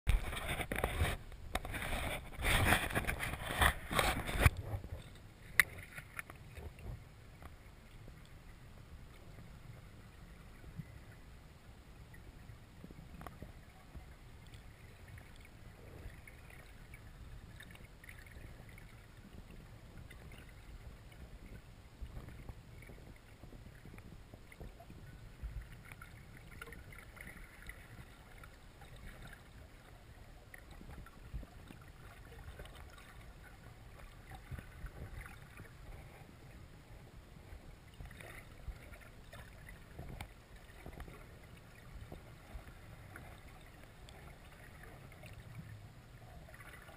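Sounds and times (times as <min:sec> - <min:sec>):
muffled underwater rumble: 0:00.1 - 0:46.9.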